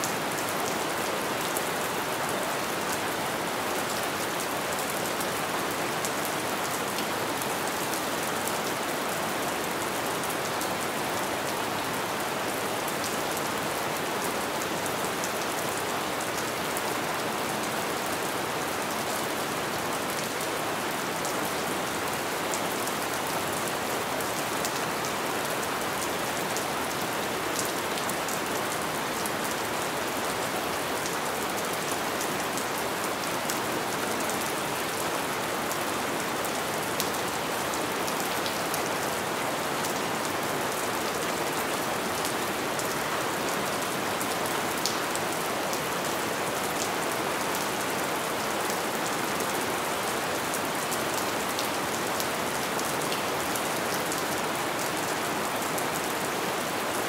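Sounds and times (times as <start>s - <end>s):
light rain: 0.0s - 57.0s.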